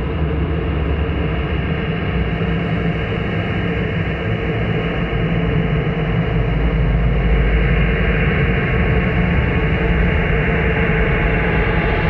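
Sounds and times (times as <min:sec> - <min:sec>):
dark bass-heavy drone: 0:00.0 - 0:12.0.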